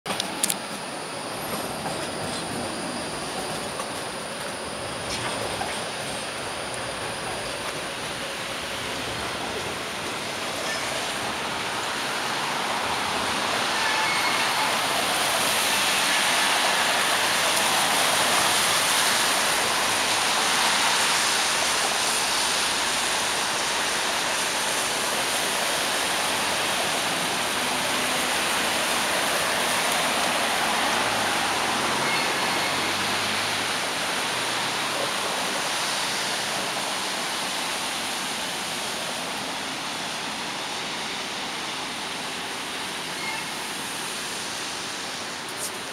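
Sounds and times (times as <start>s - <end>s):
traffic on wet roads: 0.1s - 45.9s.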